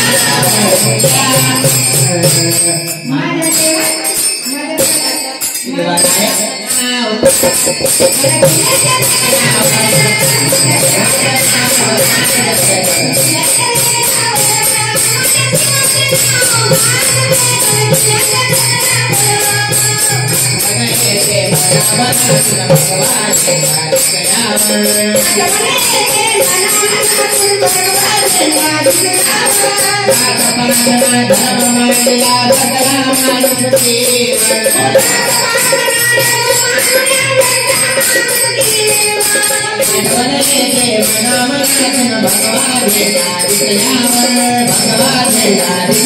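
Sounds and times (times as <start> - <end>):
jingling tambourine beat: 0.0 - 46.0.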